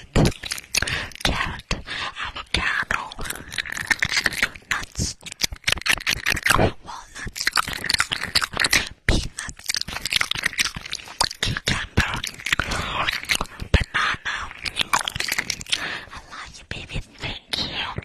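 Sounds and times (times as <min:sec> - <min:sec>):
wet mouth clicks and smacks: 0:00.0 - 0:18.0.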